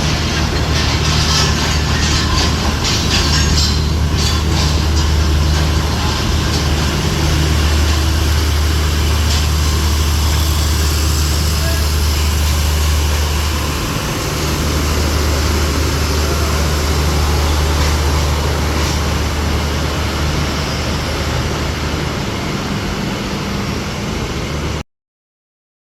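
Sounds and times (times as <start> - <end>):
railcar engine drone: 0.0 - 24.8.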